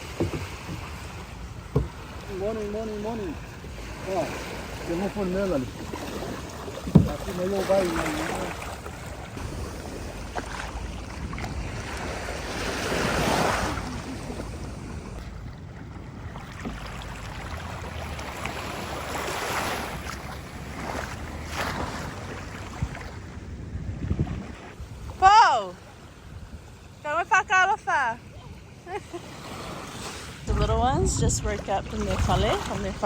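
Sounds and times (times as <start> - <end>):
wind buffeting microphone: 0.0 - 28.7, 29.4 - 33.0
ocean waves washing ashore: 0.0 - 33.0.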